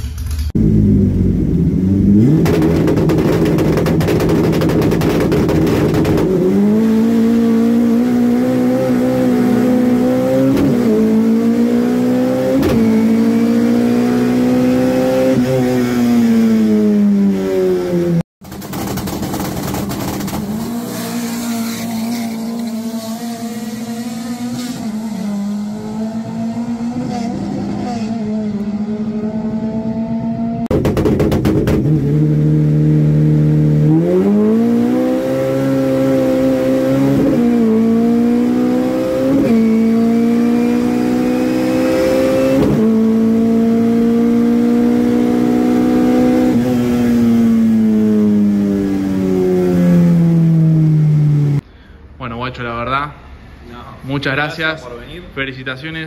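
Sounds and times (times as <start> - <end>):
car engine at full throttle: 0.0 - 51.6.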